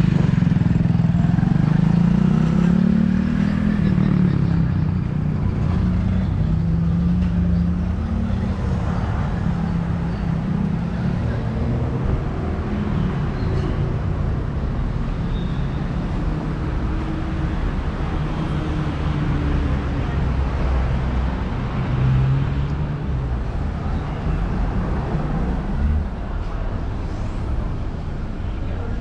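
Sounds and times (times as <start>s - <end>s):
vehicle engines passing: 0.0s - 29.0s.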